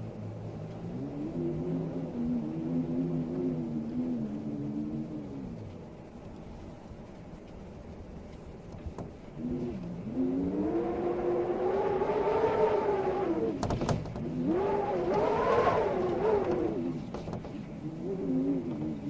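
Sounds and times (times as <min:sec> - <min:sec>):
wind howling in gusts: 0:00.0 - 0:19.0.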